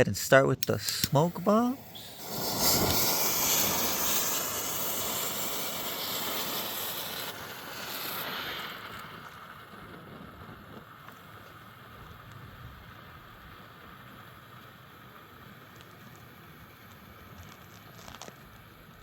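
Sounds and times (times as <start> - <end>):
smoke bomb hissing: 0.6 - 19.0.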